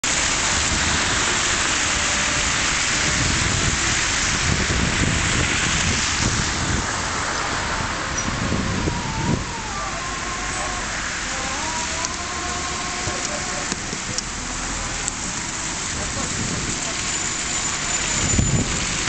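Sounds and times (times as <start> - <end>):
dense hiss of snowstorm: 0.0 - 19.0.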